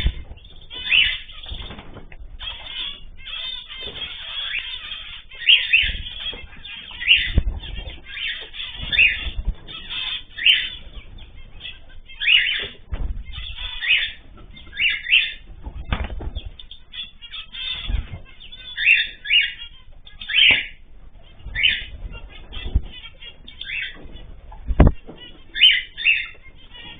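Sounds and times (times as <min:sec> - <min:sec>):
cage birds calling: 0:00.0 - 0:26.9
wings flapping: 0:00.0 - 0:26.9.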